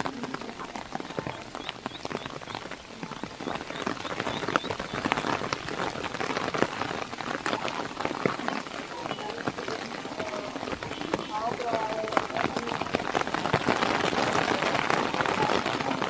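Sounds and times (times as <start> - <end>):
heavy rain wash: 0.0 - 16.0
rain drops hitting car: 0.0 - 16.0.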